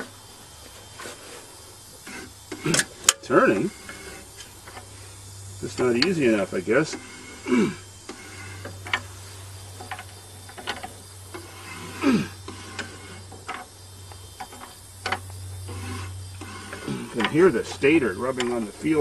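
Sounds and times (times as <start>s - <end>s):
short scraping squeaks: 0.0s - 19.0s
steady low hum: 0.0s - 19.0s
alternator clicking: 1.8s - 19.0s.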